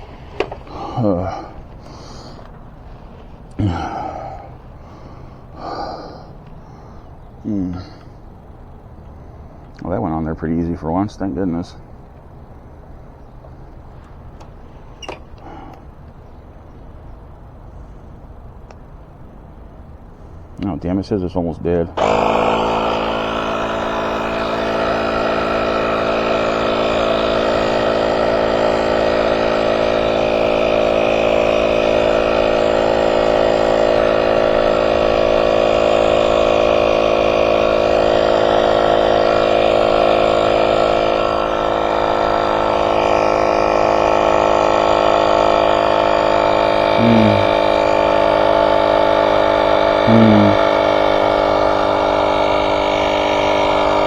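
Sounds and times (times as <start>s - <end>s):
portable tire inflator running: 0.0s - 54.0s.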